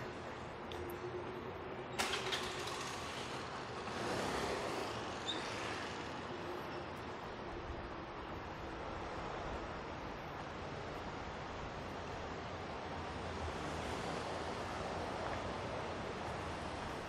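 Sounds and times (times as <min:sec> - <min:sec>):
distant traffic and machinery hum: 0:00.0 - 0:17.0.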